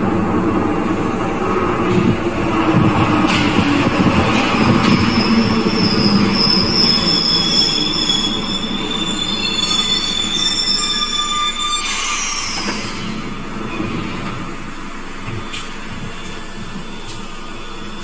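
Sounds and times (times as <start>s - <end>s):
train rumble: 0.0s - 18.0s
train wheels squealing on rails: 0.0s - 18.0s.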